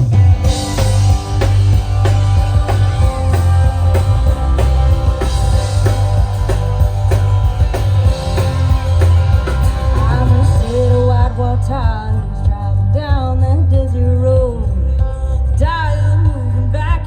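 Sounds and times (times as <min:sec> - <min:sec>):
drum kit beat: 0:00.0 - 0:15.1
live band playing country music: 0:00.0 - 0:17.0.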